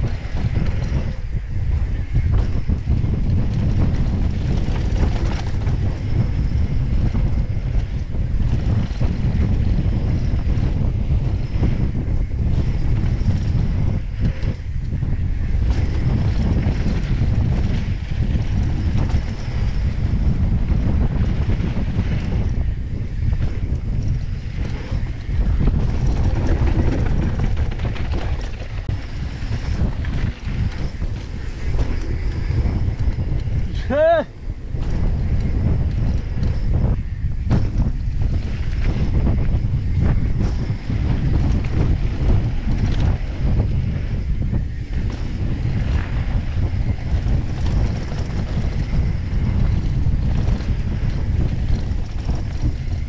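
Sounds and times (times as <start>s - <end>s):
bike rattles and clicks: 0.0s - 53.0s
tyres on loose gravel: 0.0s - 53.0s
wind rumbling on microphone: 0.0s - 53.0s.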